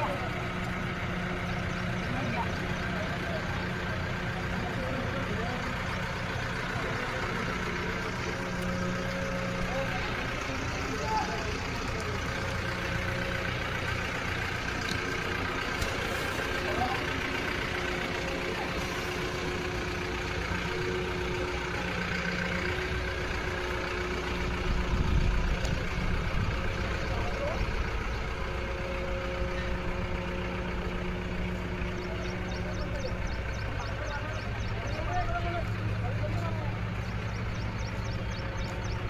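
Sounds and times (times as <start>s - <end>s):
crane engine rumbling: 0.0s - 39.0s.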